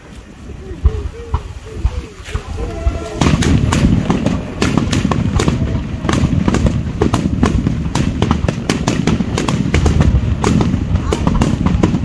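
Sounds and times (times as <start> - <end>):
continuous low rumble: 0.0 - 12.0
fireworks bursting: 0.0 - 12.0.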